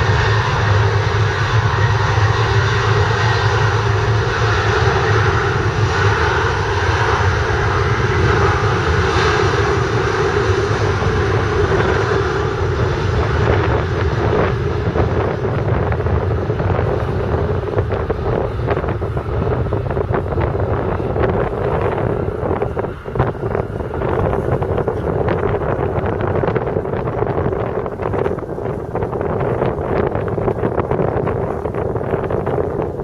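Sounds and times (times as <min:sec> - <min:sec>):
jet engines running: 0:00.0 - 0:33.0
wind crackling on microphone: 0:00.0 - 0:33.0.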